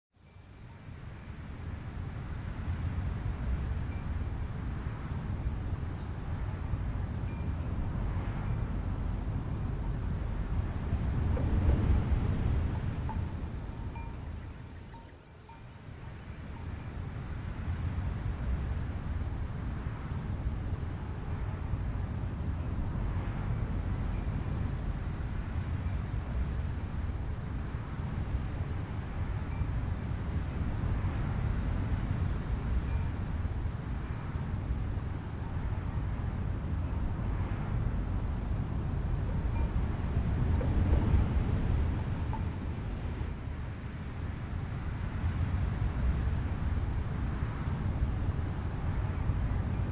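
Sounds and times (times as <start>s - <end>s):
insect chirps: 0.2s - 49.9s
wind rumble: 0.4s - 49.9s.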